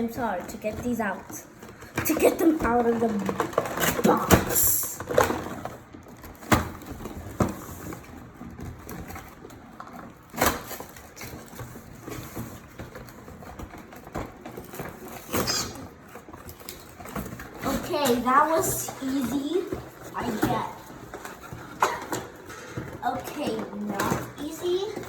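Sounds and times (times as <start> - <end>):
packaging rustling: 0.0 - 25.0.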